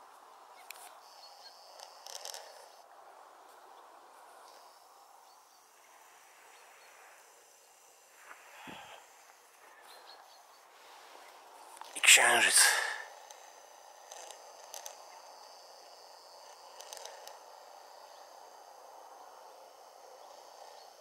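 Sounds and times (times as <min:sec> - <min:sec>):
soft steady hiss: 0:00.0 - 0:21.0.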